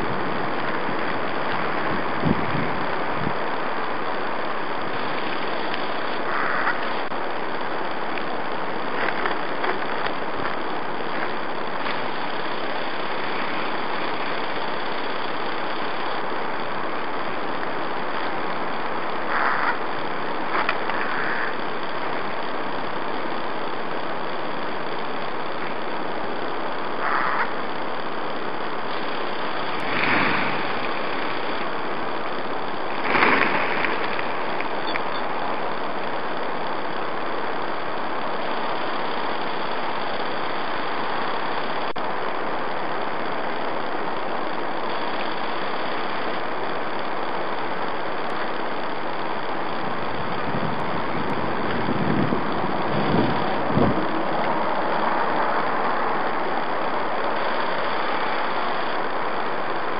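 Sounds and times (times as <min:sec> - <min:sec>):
steady hiss-like noise: 0:00.0 - 0:59.9.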